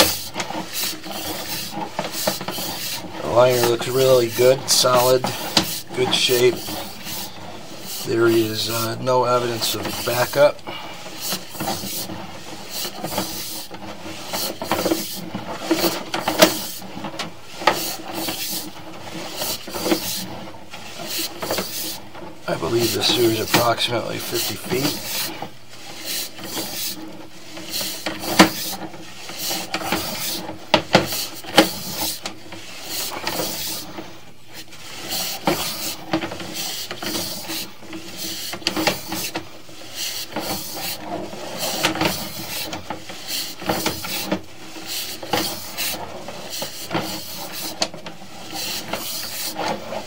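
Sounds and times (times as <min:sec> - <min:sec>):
rubbing and scraping in pipe: 0:00.0 - 0:50.0.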